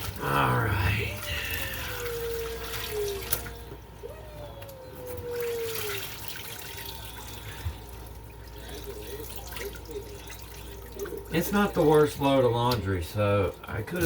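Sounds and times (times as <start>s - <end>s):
water dripping and splashing: 0.0s - 3.8s, 4.6s - 12.9s.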